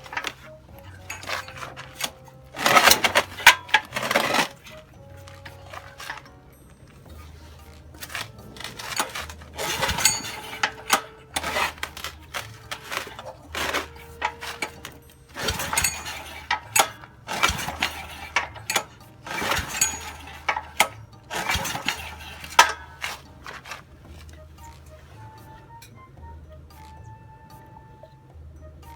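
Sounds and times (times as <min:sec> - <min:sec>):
small engine starting and stalling: 0:00.0 - 0:25.4.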